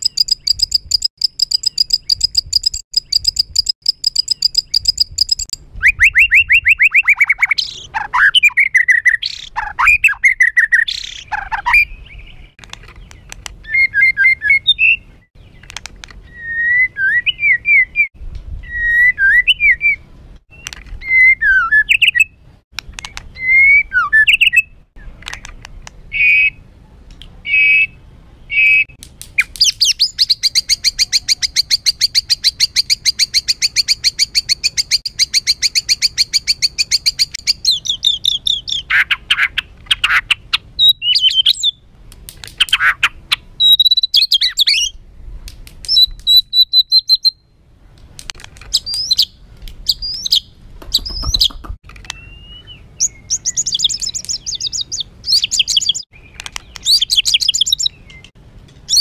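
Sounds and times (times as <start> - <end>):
songbird singing harsh song: 0.0 - 41.8, 42.6 - 47.6, 48.7 - 59.0.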